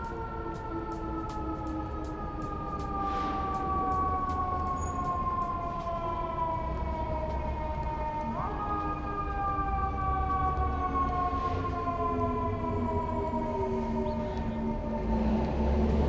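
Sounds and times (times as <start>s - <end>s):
city traffic rumble: 0.0s - 16.0s
emergency vehicle siren: 0.0s - 16.0s.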